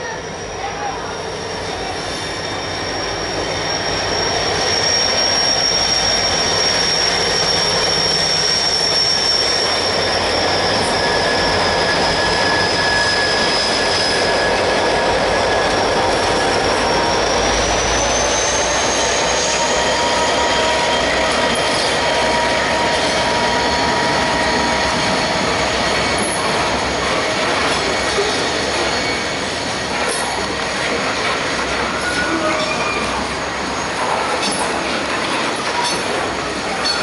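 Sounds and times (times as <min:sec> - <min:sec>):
thin high squeal: 0:00.0 - 0:30.5, 0:31.9 - 0:34.8
diesel locomotives passing: 0:00.0 - 0:37.0.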